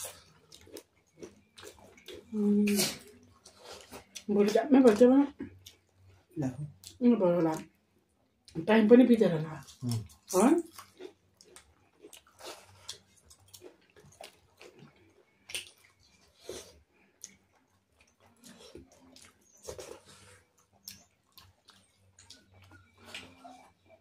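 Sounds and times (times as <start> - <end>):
people chewing: 0.0 - 7.7, 9.6 - 24.0.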